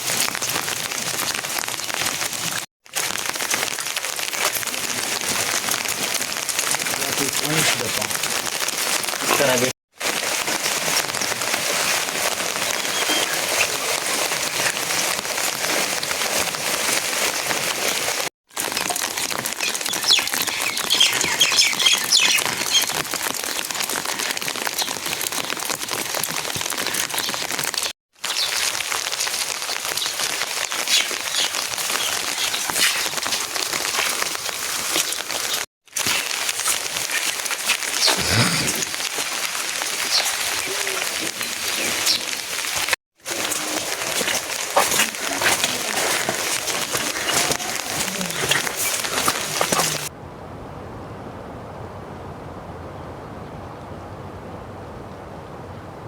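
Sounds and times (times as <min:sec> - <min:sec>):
heavy rain pattering: 0:00.0 - 0:50.2.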